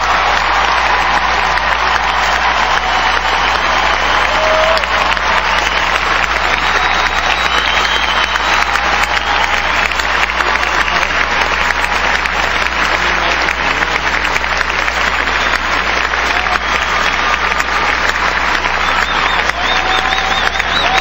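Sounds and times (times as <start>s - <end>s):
crowd applauding: 0.0s - 21.0s.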